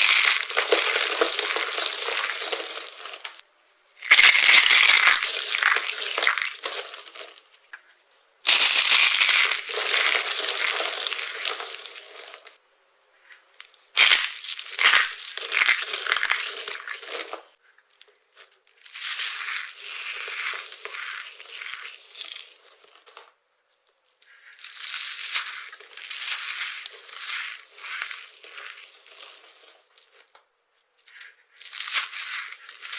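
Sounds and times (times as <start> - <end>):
dry soap crunching: 0.0 - 3.4, 4.0 - 7.7, 8.5 - 12.6, 13.6 - 32.9.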